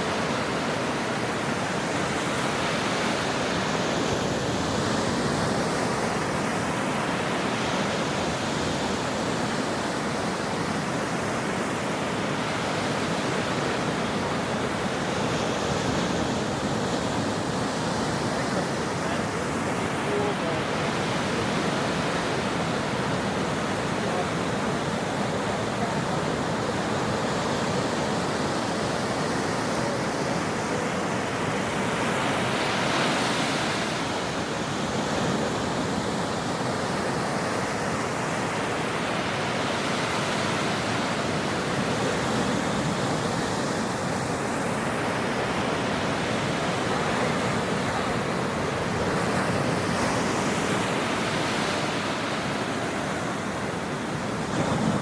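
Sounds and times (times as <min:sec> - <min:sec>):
ocean surf washing on shore: 0:00.0 - 0:55.0
waves breaking: 0:00.0 - 0:55.0.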